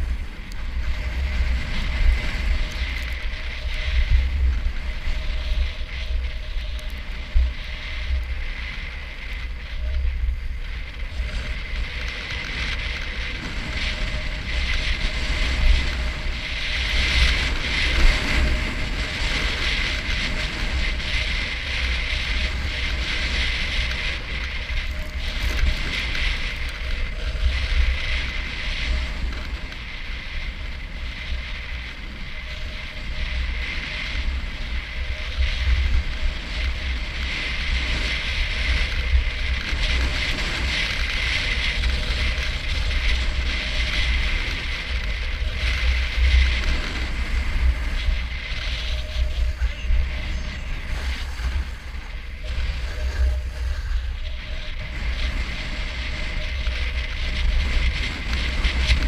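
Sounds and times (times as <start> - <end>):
snowboard scraping on snow: 0.0 - 59.0
wind rumbling on microphone: 0.0 - 59.0.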